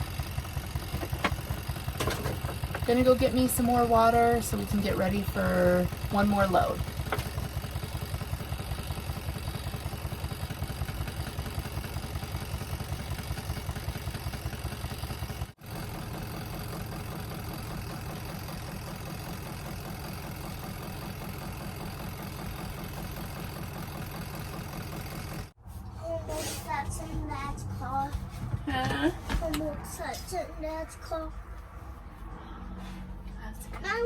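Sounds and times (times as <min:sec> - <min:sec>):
washing machine spin motor running: 0:00.0 - 0:25.7, 0:27.2 - 0:30.1.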